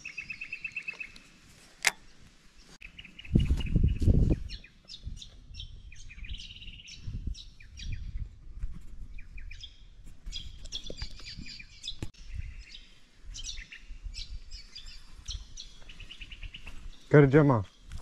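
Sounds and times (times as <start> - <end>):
birds chirping and trilling: 0.0 - 18.0.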